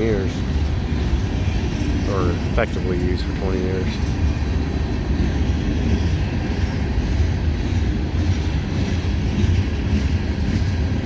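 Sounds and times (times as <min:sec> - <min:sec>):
train wheels rolling on rails: 0:00.0 - 0:11.0.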